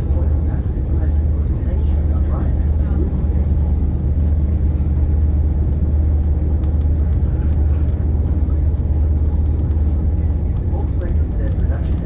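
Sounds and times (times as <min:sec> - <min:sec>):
train rumbling from inside carriage: 0:00.0 - 0:12.0.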